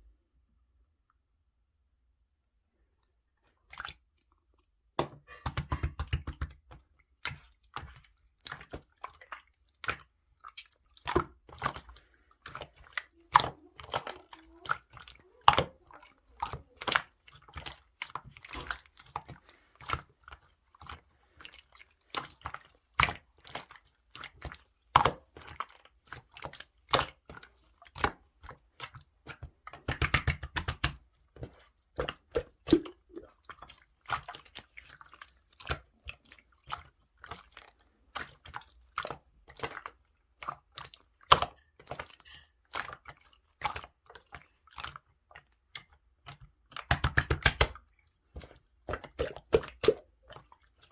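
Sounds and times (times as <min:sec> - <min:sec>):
slime squished by hand: 0:05.0 - 0:50.9.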